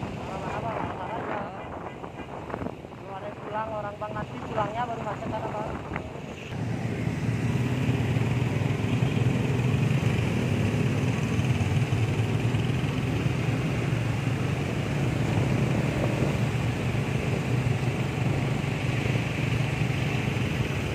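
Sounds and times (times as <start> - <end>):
road noise: 0.0 - 20.9.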